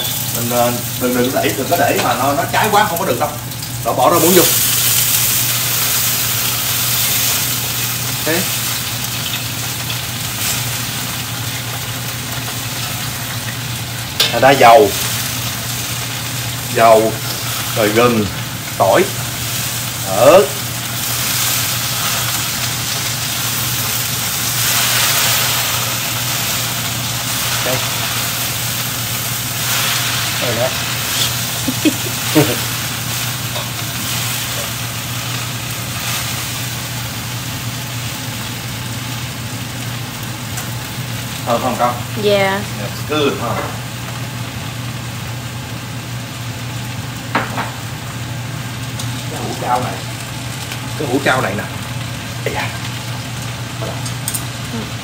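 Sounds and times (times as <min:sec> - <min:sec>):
vegetables sizzling in wok: 0:00.0 - 0:55.0.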